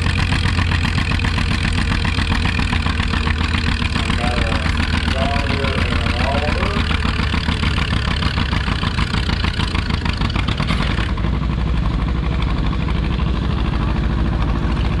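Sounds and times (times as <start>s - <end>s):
tractor engines idling: 0.0s - 15.0s.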